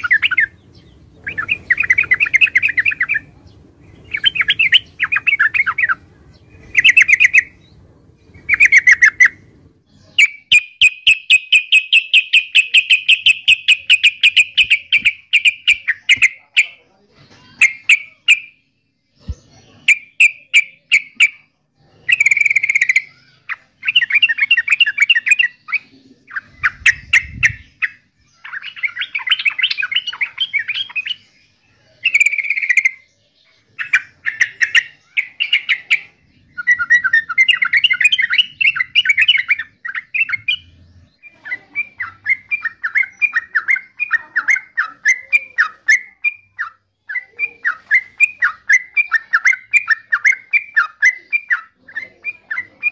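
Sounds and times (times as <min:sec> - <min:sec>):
bird chattering calls: 0:00.0 - 0:18.6, 0:19.2 - 0:52.9.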